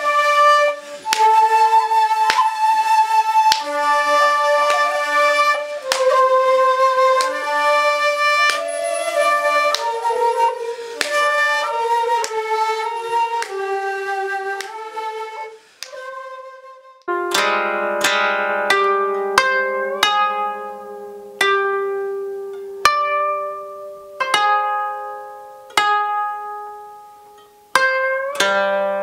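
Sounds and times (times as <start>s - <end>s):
plucked koto: 0.0s - 15.5s, 17.1s - 29.0s
bamboo flutes playing held notes: 0.0s - 29.0s.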